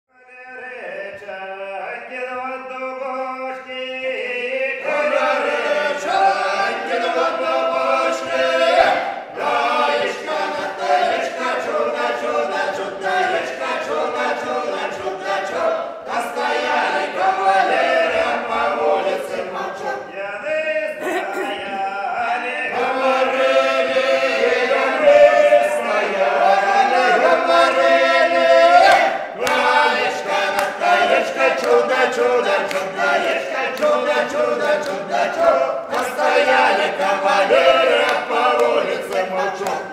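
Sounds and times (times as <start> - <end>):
men singing a cappella: 0.2 - 39.9.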